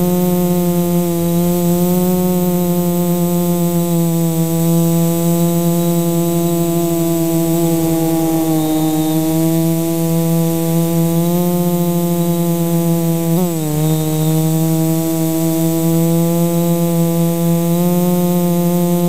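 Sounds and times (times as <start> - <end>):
quadcopter motors buzzing: 0.0 - 19.0.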